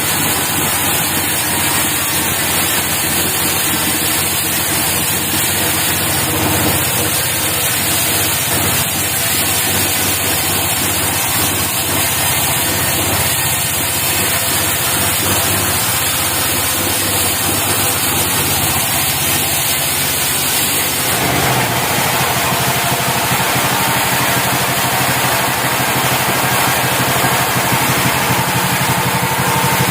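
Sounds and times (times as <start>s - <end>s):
sawmill engine running: 0.0s - 29.9s.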